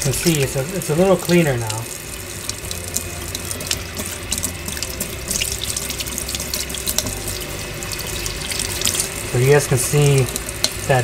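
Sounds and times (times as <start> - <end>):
tap running into sink: 0.0 - 11.0.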